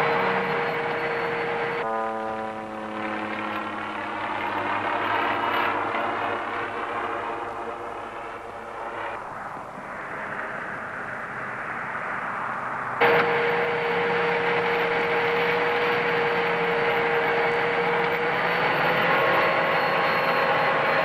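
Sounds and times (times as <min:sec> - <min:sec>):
propeller aircraft engines: 0:00.0 - 0:21.0.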